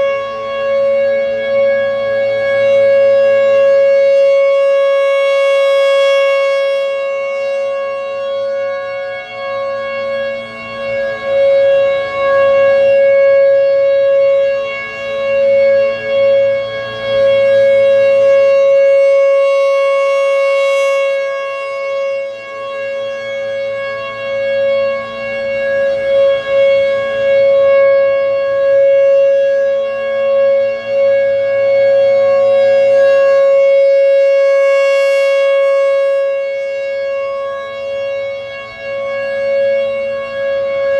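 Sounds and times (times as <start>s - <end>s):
rotating warning siren steady tone: 0.0s - 40.9s.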